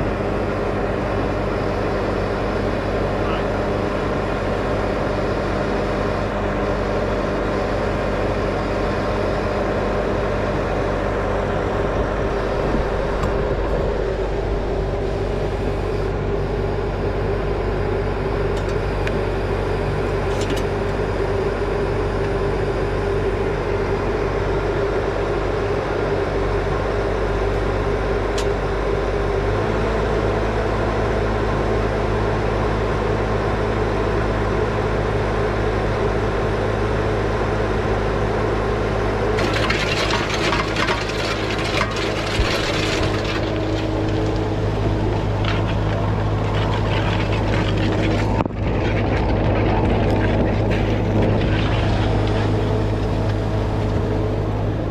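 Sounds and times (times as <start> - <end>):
diesel engine running under load: 0.0 - 54.9
hydraulic auger boring: 0.0 - 54.9.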